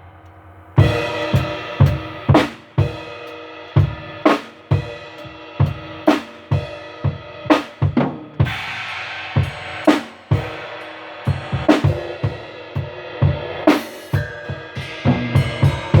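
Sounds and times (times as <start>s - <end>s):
cymbal crash: 0.0s - 7.2s, 8.4s - 16.0s
drum beat of bass and snare: 0.8s - 16.0s.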